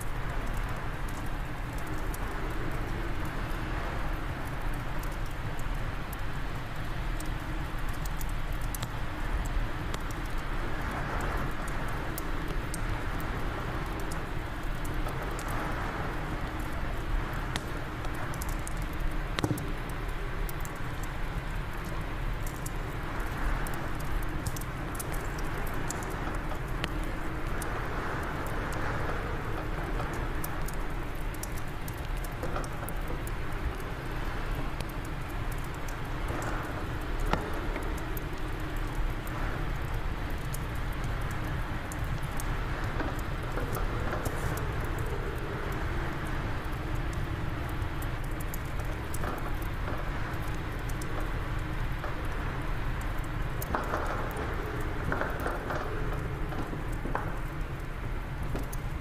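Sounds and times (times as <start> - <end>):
fireplace fire crackling: 0.0 - 59.0
low rush of wind: 0.0 - 59.0.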